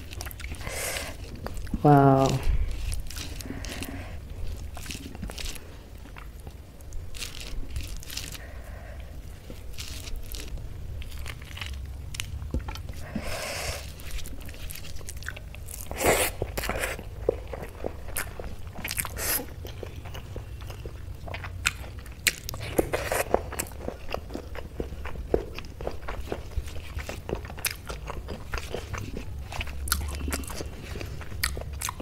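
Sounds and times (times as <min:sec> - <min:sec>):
wet chewing and smacking: 0:00.0 - 0:32.0.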